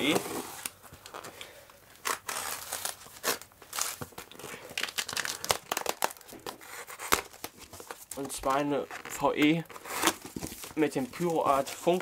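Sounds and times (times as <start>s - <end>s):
cardboard crinkling and tearing: 2.0s - 12.0s.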